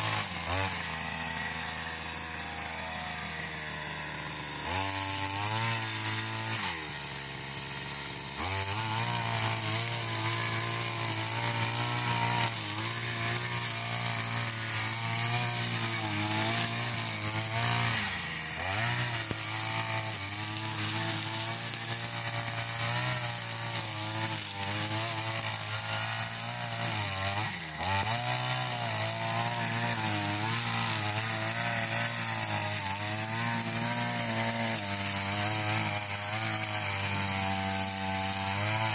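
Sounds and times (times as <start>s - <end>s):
string trimmer cutting grass: 0.0s - 38.9s.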